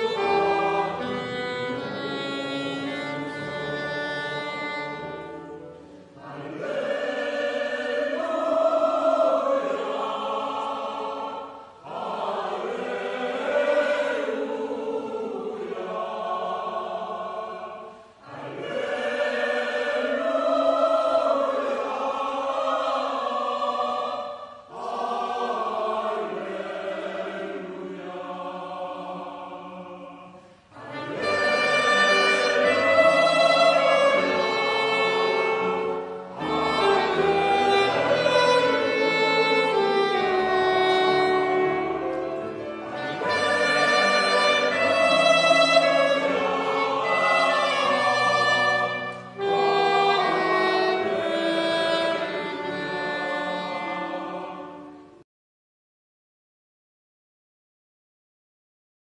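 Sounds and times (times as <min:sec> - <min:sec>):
mixed choir singing a hymn: 0:00.0 - 0:55.2.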